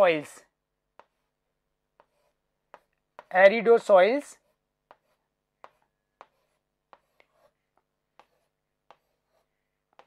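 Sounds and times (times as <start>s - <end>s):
marker pen writing on whiteboard: 0.0s - 10.0s.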